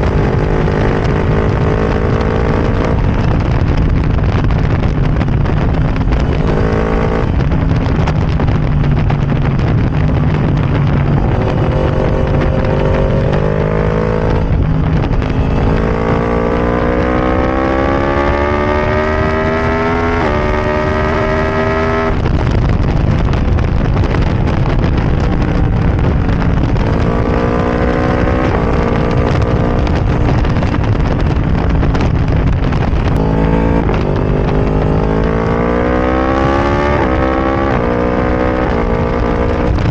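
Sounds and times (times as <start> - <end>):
motorcycle engine accelerating hard: 0.0 - 39.9
road and wind rumble: 0.0 - 39.9.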